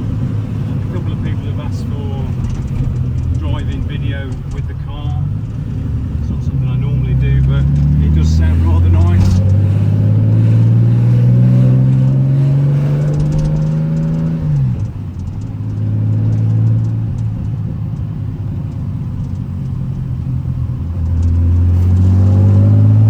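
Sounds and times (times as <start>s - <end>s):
engine revving: 0.0s - 23.0s
exhaust crackling on overrun: 0.0s - 23.0s.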